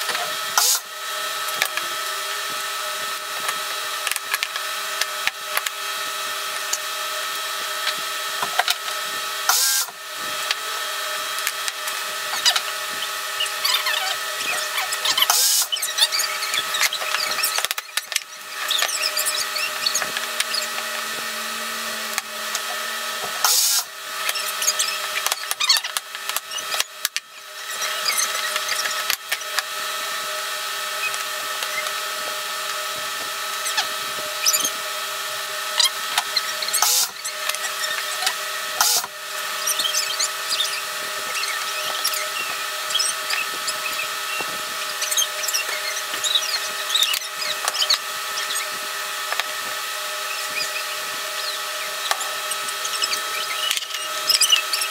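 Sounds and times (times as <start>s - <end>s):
power drill running: 0.0s - 54.9s.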